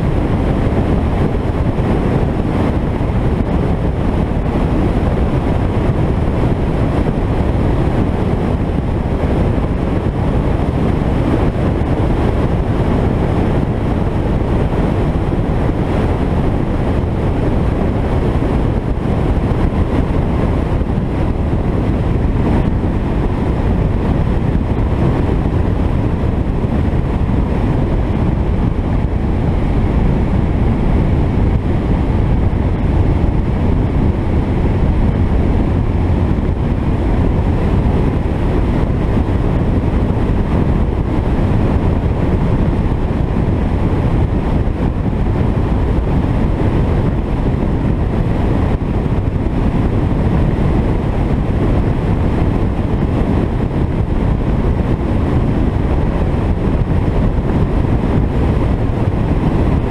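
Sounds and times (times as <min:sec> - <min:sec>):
car road noise rumble: 0:00.0 - 0:59.9
wind buffeting microphone: 0:00.0 - 0:59.9.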